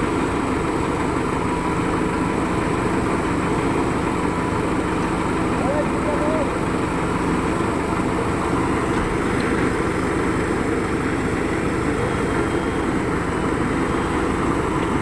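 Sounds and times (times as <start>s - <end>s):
diesel engines droning: 0.0s - 15.0s.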